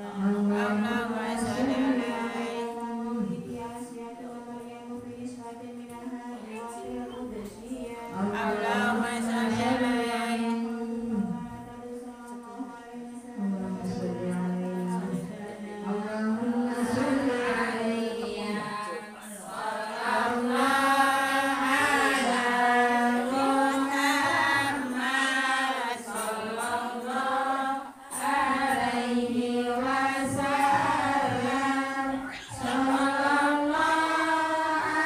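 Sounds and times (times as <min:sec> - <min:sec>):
women chanting in unison: 0:00.0 - 0:35.0.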